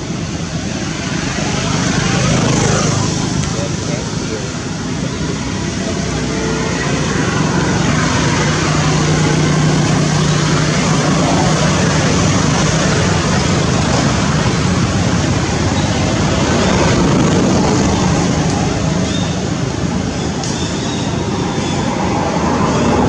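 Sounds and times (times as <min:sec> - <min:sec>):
low engine hum: 0:00.0 - 0:23.0
traffic hiss: 0:00.0 - 0:23.0.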